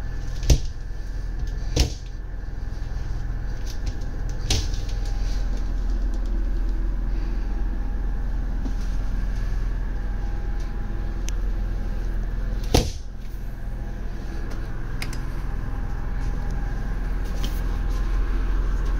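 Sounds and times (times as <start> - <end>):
low rumble: 0.0 - 18.9.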